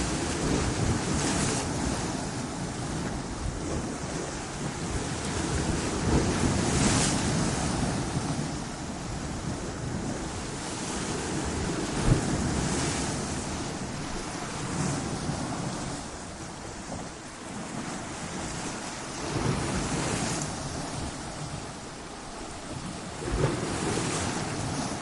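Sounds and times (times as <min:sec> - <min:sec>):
surf breaking on rocks: 0:00.0 - 0:25.0.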